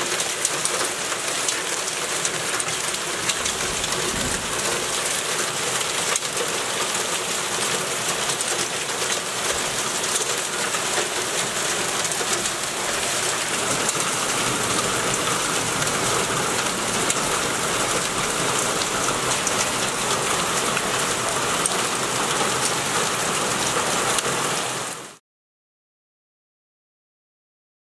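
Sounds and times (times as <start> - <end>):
hail and rain on paving: 0.0 - 25.2.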